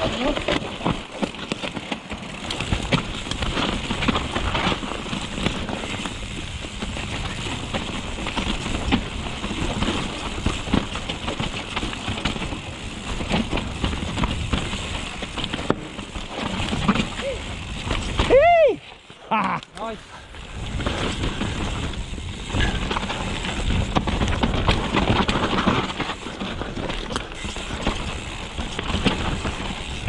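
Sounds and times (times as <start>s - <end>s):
bike rattling over bumps: 0.0s - 30.0s
bike tyre and wind noise: 0.0s - 30.0s.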